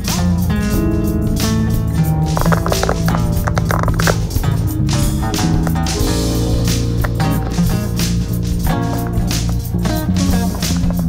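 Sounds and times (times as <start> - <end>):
guitar and bass music with beat: 0.0 - 11.0.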